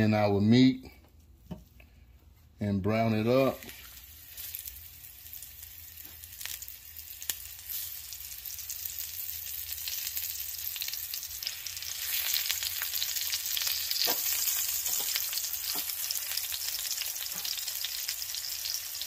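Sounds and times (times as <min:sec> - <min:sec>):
steaks sizzling in oil: 0:03.6 - 0:19.0.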